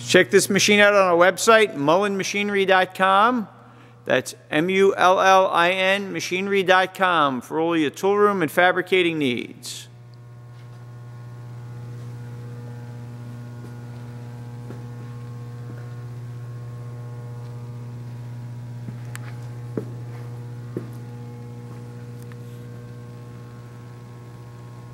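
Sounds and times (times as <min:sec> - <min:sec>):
electrical hum: 0:00.0 - 0:24.9.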